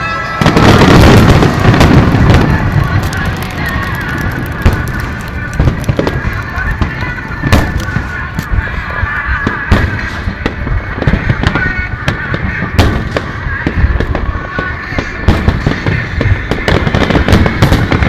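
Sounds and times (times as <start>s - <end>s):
fireworks booms: 0.0s - 18.0s
fireworks launching and bursting: 0.0s - 18.0s
rumble and crackle: 0.2s - 18.0s.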